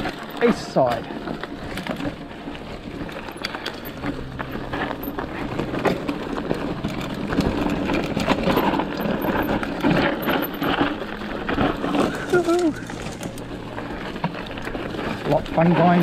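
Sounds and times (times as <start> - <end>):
bike knocking and rattling: 0.0 - 16.0
tyres crunching over loose ground: 0.0 - 16.0.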